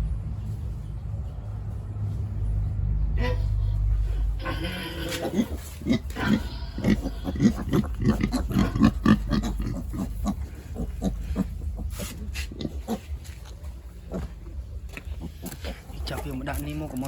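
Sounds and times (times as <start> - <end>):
pig grunting: 3.2 - 17.0.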